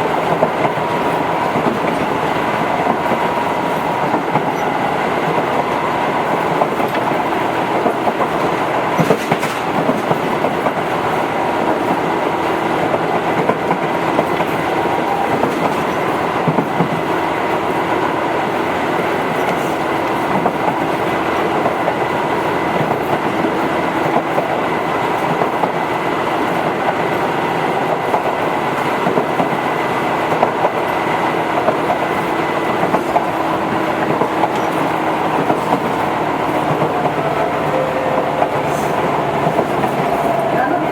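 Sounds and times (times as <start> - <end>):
train hum: 0.0 - 40.9
train wheels rumbling on rails: 0.0 - 40.9
rail-joint clack: 0.2 - 17.1, 19.2 - 24.5, 30.3 - 40.9.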